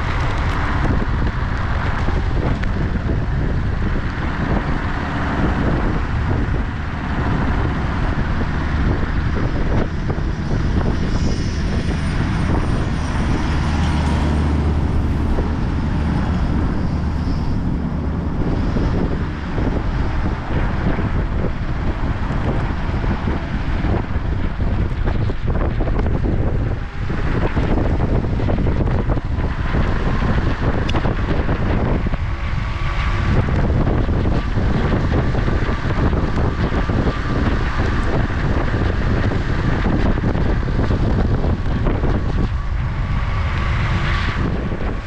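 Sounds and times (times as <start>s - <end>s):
skateboard wheels rumbling on road: 0.0s - 45.0s
wind buffeting on microphone: 0.0s - 45.0s.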